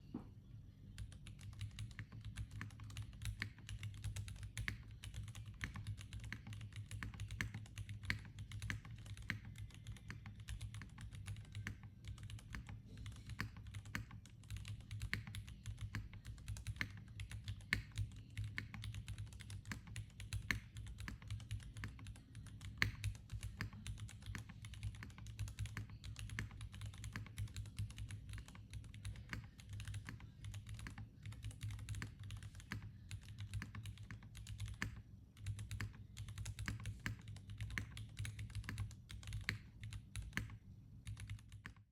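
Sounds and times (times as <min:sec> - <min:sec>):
mechanical keyboard typing: 0:00.9 - 0:41.9.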